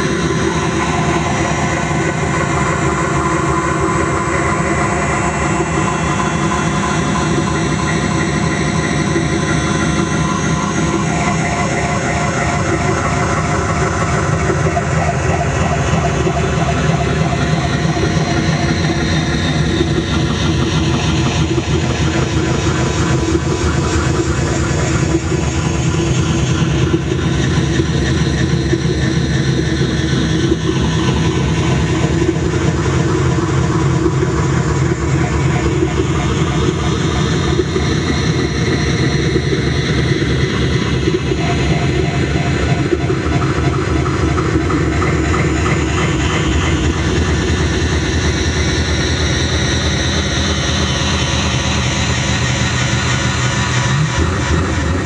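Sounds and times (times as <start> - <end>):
droning electronic noise: 0.0 - 55.0.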